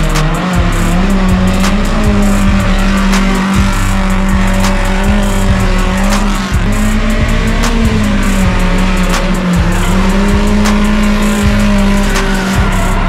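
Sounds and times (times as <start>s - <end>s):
background music with steady beat: 0.0s - 13.0s
held low note: 0.0s - 13.0s.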